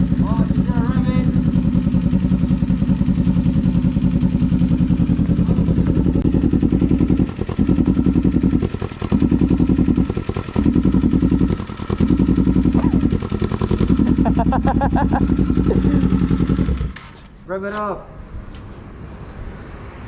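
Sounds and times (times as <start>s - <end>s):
motorcycle engine idling: 0.0s - 17.3s.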